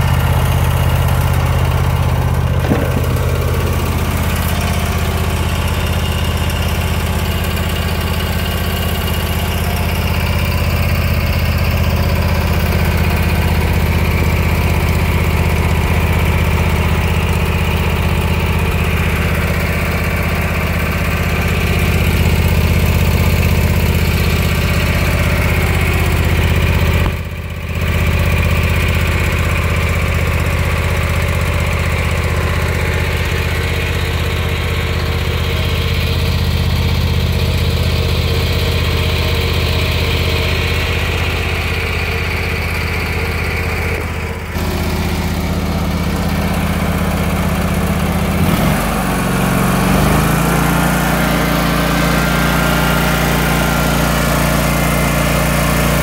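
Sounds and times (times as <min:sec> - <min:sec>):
mower engine idling: 0:00.0 - 0:56.0.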